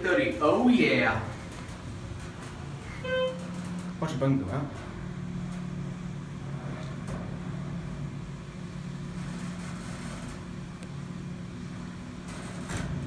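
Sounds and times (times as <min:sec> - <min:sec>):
elevator ride noise: 0:00.0 - 0:13.0.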